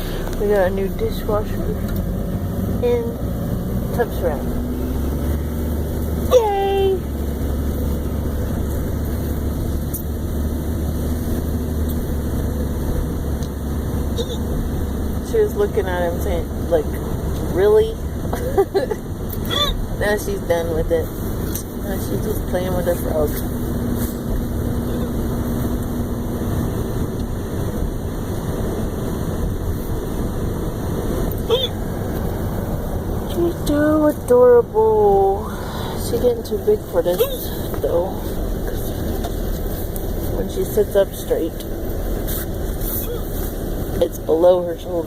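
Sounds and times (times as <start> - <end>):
truck engine rumble: 0.0 - 45.0.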